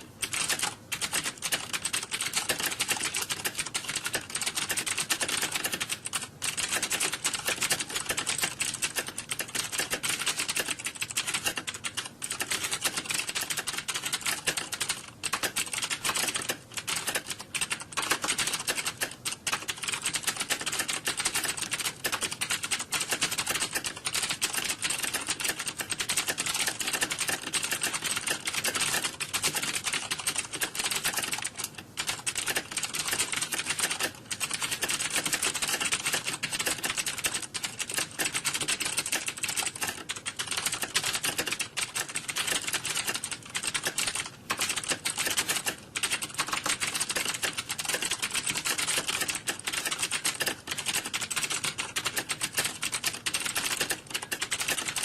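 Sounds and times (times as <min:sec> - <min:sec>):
typing on keyboards: 0:00.0 - 0:55.0.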